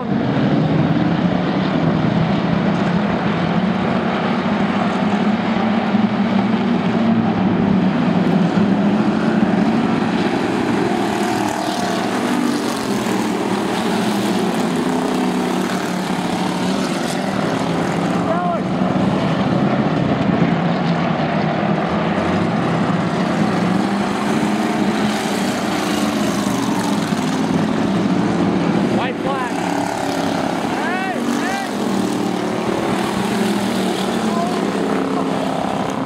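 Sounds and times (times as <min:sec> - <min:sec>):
race car engines droning: 0:00.0 - 0:36.0.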